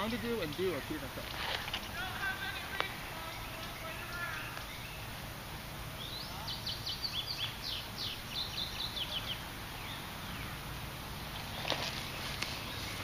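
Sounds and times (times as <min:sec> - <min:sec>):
outdoor background hiss: 0:00.0 - 0:13.0
songbird singing: 0:00.0 - 0:13.0.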